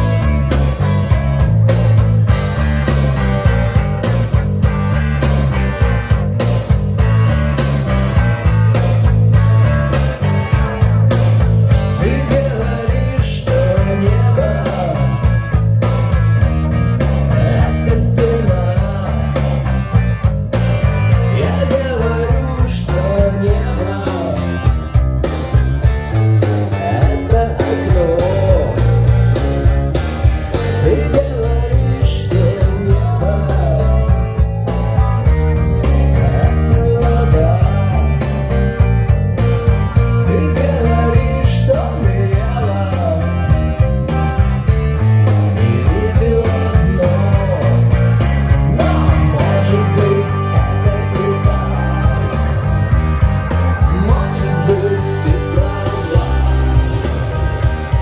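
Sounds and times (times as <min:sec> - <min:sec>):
guitar rock music over loudspeakers: 0:00.0 - 0:58.0.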